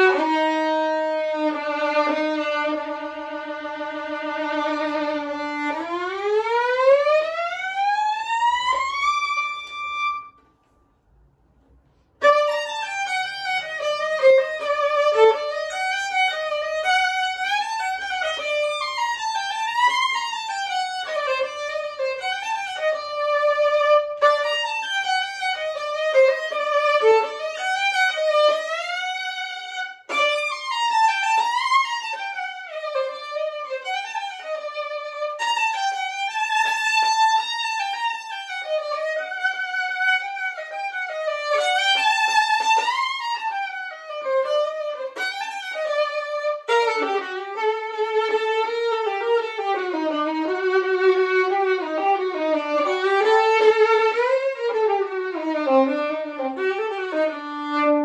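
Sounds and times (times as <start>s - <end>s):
solo violin melody: 0.0s - 10.4s, 12.2s - 58.0s.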